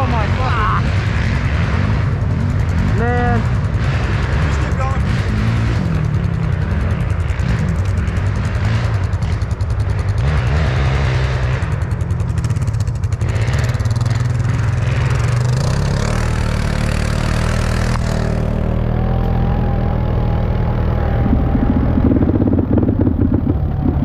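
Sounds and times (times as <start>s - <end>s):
quad bike engine under throttle: 0.0s - 24.0s.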